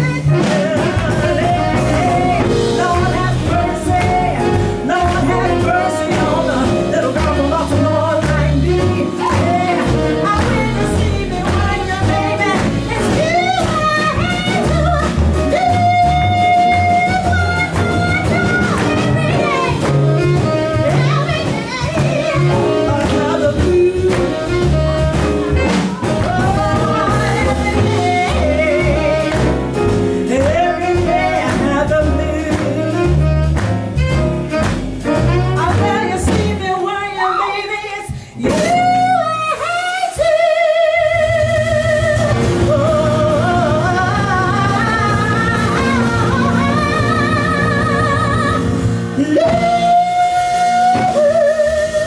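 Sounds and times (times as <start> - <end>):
walking double bass: 0.0 - 40.0, 41.2 - 52.0
jazz band playing blues: 0.0 - 52.0.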